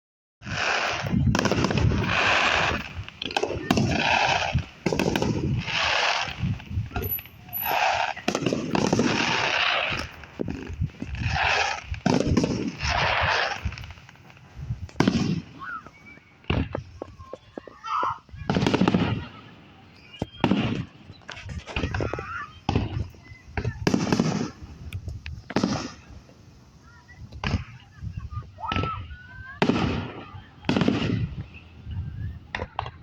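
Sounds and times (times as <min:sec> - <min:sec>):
fireworks popping and crackling: 0:00.4 - 0:33.0.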